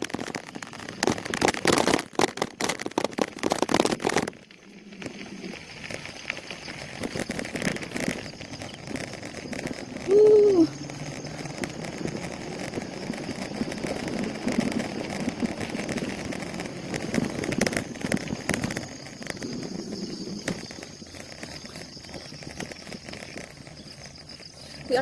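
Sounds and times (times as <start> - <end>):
bicycle rattling on rough road: 0.0 - 25.0.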